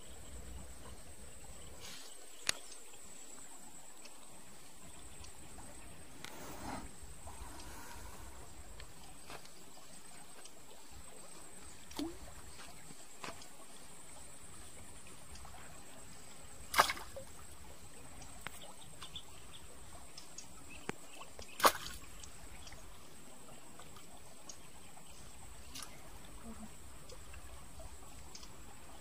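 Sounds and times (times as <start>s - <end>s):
stream trickling over stones: 0.0s - 29.0s.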